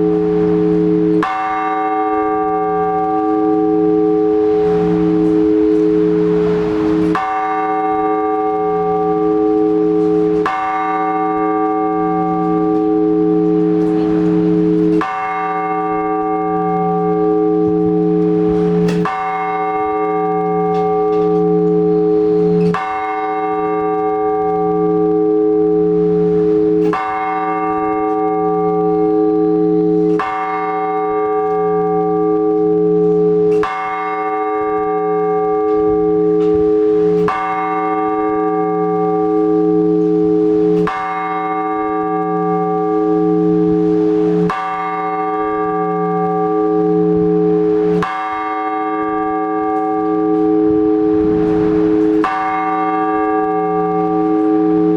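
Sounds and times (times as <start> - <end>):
large church bell tolling: 0.0 - 54.9.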